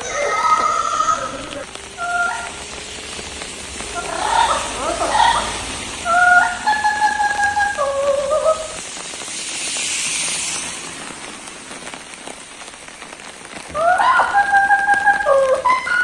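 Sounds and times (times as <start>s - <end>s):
spraying water hiss: 0.0s - 16.0s.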